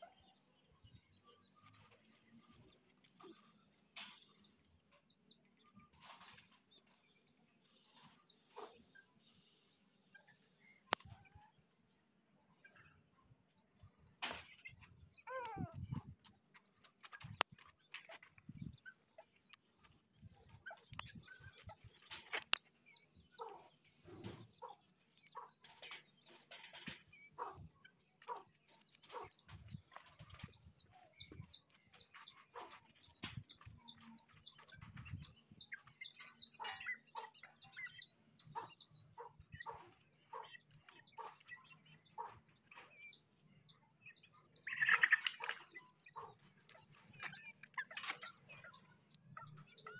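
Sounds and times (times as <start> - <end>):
chickens clucking: 0.0 - 49.9.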